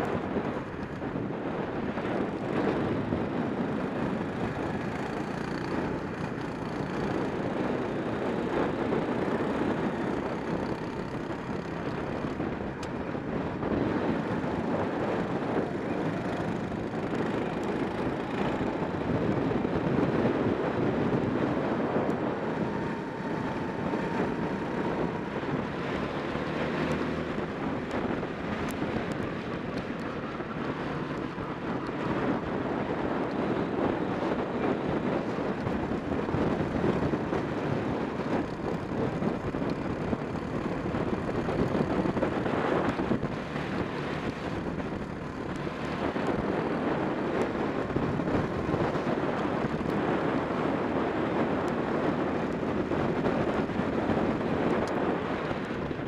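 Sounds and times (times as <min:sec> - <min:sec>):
kart engine racing: 0:00.0 - 0:56.0
wind noise on microphone: 0:00.0 - 0:56.0.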